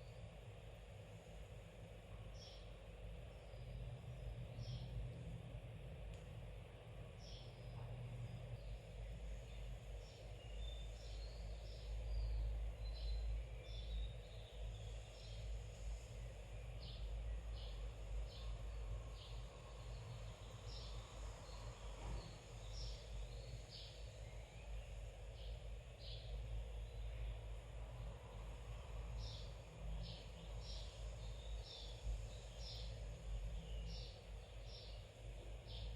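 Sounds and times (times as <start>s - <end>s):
low steady rumble: 0.0s - 35.9s
small birds chirping: 1.5s - 5.7s, 6.7s - 35.9s.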